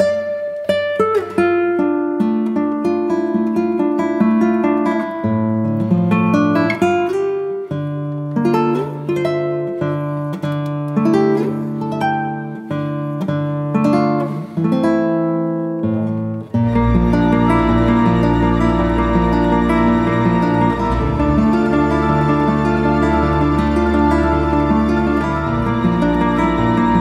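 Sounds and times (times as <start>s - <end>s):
acoustic guitar picking melody: 0.0s - 27.0s.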